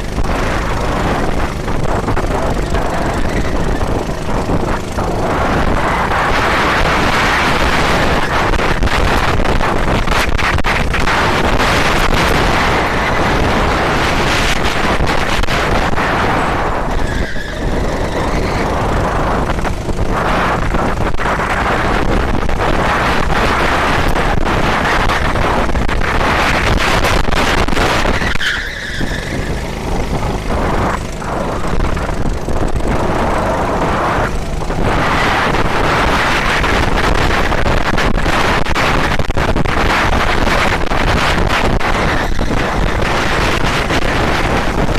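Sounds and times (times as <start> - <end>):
wind rushing on microphone: 0.0 - 44.9.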